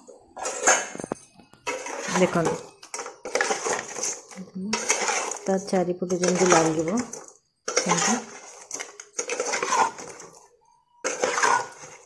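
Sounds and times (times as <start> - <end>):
metal spatula scraping a pan: 0.0 - 12.0.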